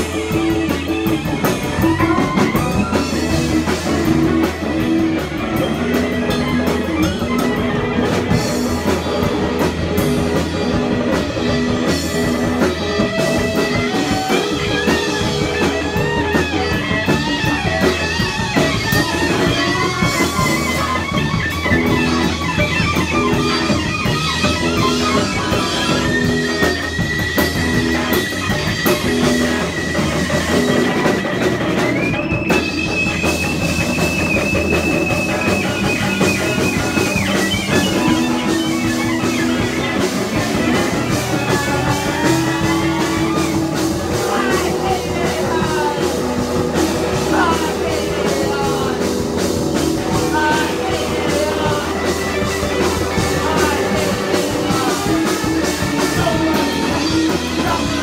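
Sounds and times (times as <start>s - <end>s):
punk rock band playing: 0.0s - 58.0s.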